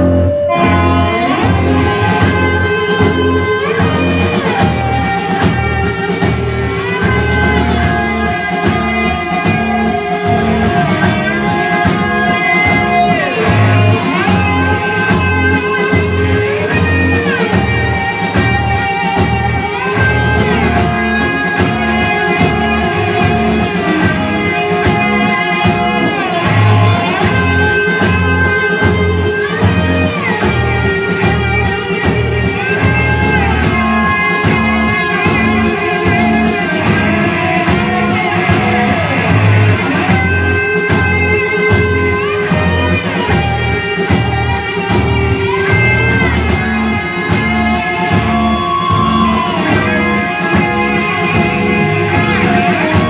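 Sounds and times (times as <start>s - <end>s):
bass guitar: 0.0s - 53.0s
distorted electric guitars: 0.0s - 53.0s
drum kit steady beat: 0.0s - 53.0s.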